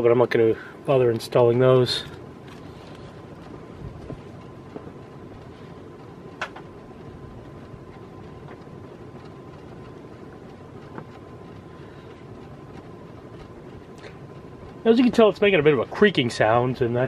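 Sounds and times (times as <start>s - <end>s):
ceiling fan whirring: 0.0s - 17.0s
faint whine: 0.0s - 17.0s
sharp ticks: 1.1s - 17.0s.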